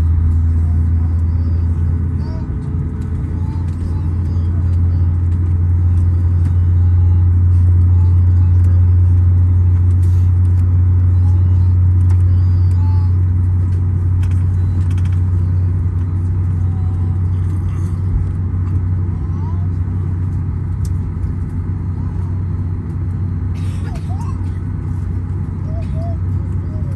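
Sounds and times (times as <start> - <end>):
airliner engines droning: 0.0 - 26.9.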